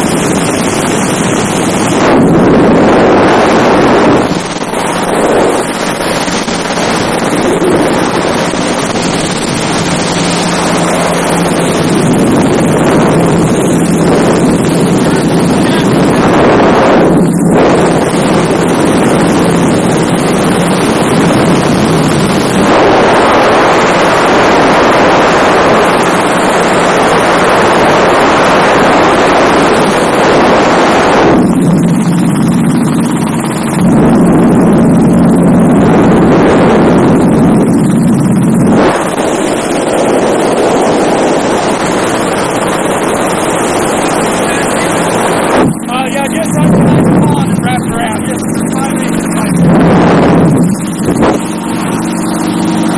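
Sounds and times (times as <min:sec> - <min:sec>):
helicopter engine and rotor noise: 0:00.0 - 0:52.9
wind rushing over microphone: 0:00.0 - 0:52.9.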